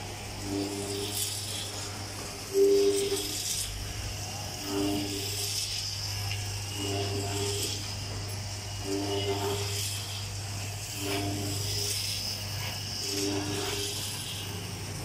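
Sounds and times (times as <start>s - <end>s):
conveyor motor humming and rattling: 0.0s - 15.0s.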